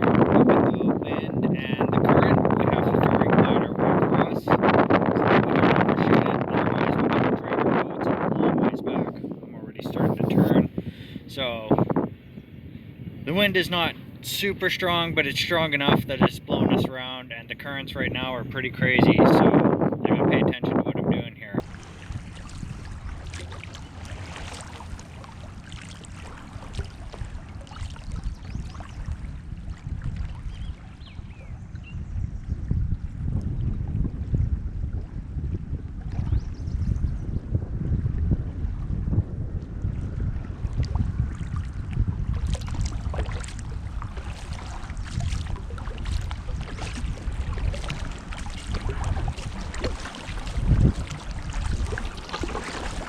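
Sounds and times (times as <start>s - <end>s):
water splashing around kayak: 0.0s - 19.9s, 21.6s - 53.0s
wind on microphone: 0.0s - 53.0s.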